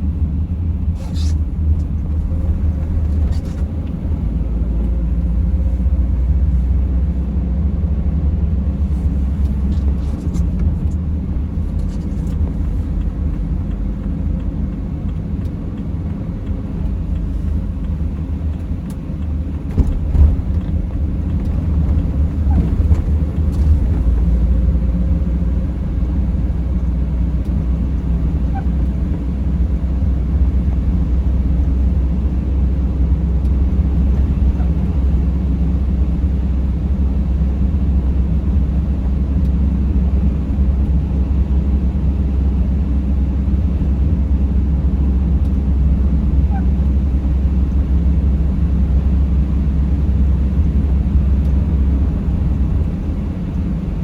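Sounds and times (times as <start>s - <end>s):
vehicle driving rumble: 0.0s - 54.0s.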